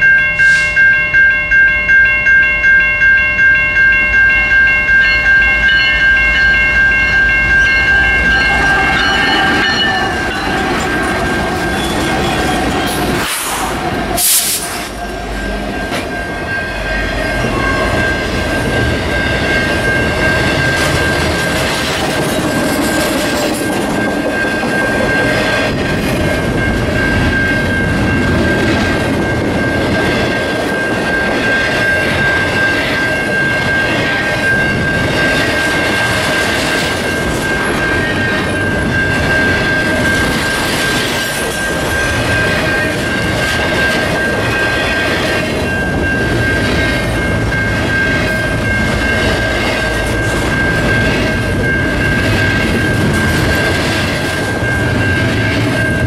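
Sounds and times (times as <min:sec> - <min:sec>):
steady high-pitched tone: 0:00.0 - 0:56.0
train wheels clattering on rails: 0:07.6 - 0:56.0.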